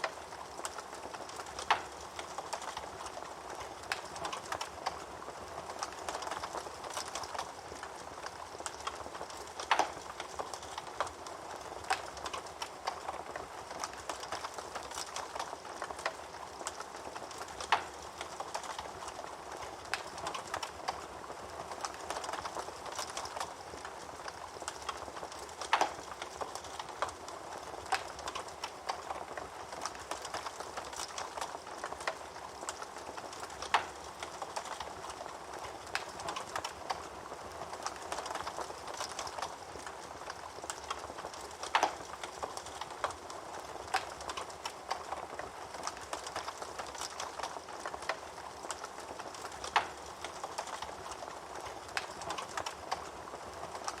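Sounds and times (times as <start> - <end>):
fire crackling with snaps: 0.0 - 54.0.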